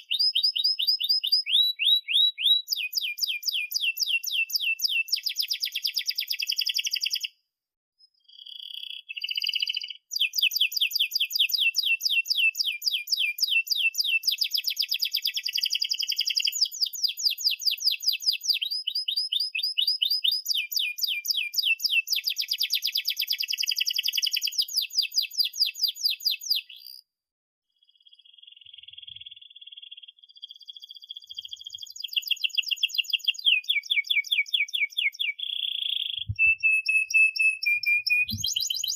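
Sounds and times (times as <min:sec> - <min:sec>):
canary chirping and trilling: 0:00.0 - 0:07.4, 0:08.0 - 0:27.1, 0:27.8 - 0:38.9.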